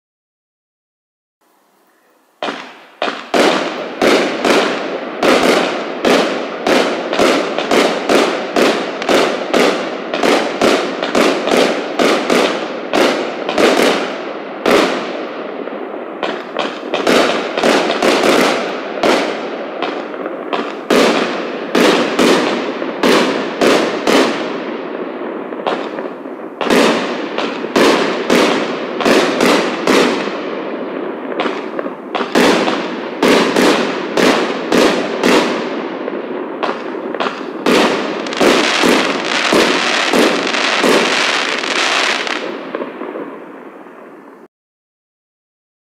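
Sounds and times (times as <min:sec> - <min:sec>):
firework shots: 0:02.4 - 0:44.5.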